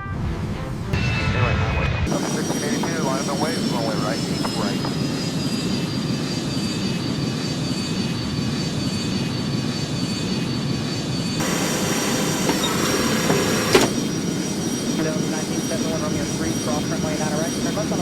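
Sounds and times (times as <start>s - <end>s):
engine and airflow rumble: 2.0s - 18.0s
faint high whine: 2.1s - 18.0s.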